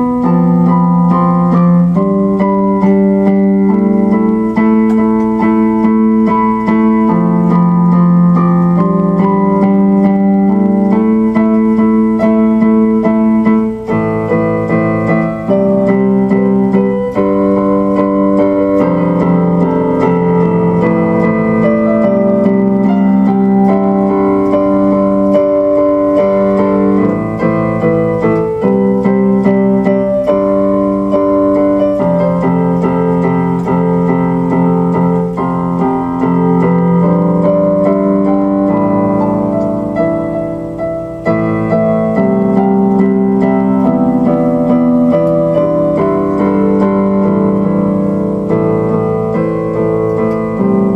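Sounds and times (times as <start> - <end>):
electric piano chords: 0.0 - 50.9.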